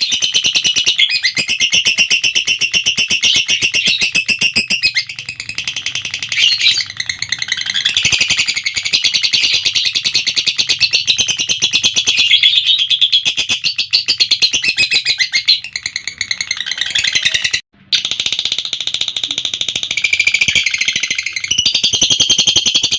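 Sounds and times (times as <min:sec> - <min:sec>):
lovebird chattering: 0:00.0 - 0:22.9.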